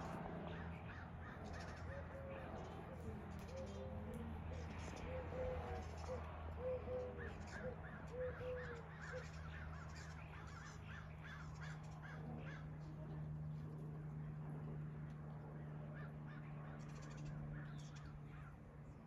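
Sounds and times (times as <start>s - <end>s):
birds calling: 0.0s - 12.8s, 15.8s - 18.6s.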